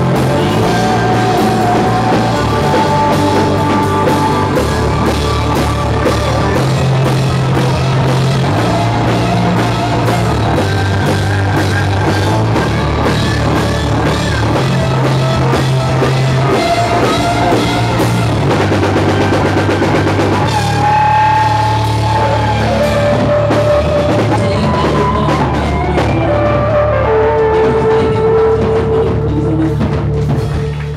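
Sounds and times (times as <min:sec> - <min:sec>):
drums driving beat: 0:00.0 - 0:30.9
live rock band playing: 0:00.0 - 0:30.9.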